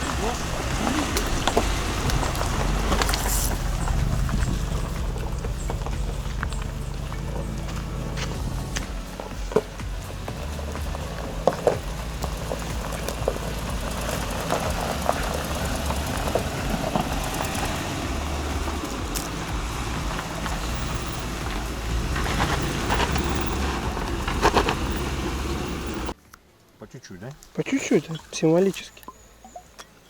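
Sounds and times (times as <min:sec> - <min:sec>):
suv engine and road rumble: 0:00.0 - 0:26.2.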